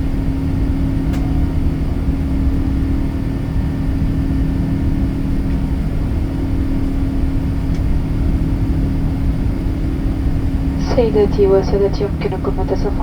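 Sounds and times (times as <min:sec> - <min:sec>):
airplane cabin engine rumble: 0:00.0 - 0:13.0
steady low hum: 0:00.7 - 0:13.0.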